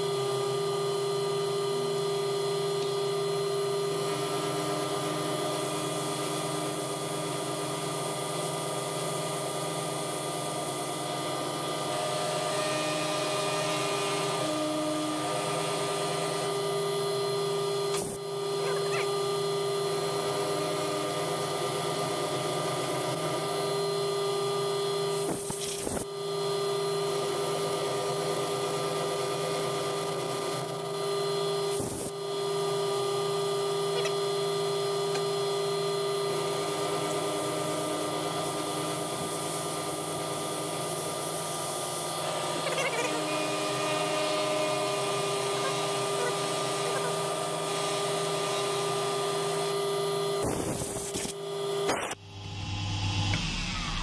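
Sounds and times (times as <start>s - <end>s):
milling machine humming: 0.0s - 54.0s.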